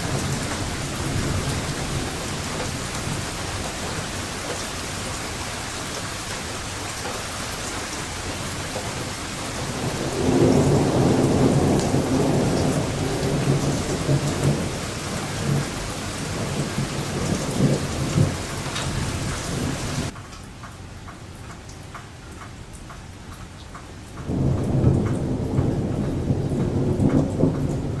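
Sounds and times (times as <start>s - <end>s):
rolling thunder: 0.0s - 20.1s, 24.3s - 28.0s
steady rain: 0.0s - 28.0s.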